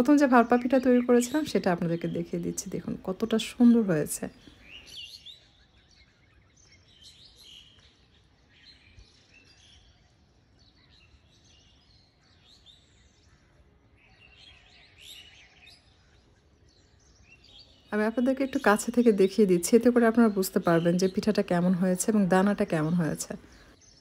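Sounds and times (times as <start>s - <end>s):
faint birds twittering: 0.0s - 24.0s.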